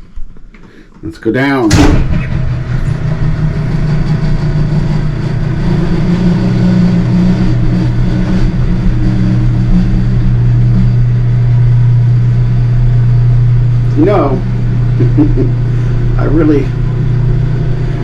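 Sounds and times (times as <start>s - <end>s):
elevator motor humming: 0.0s - 18.0s.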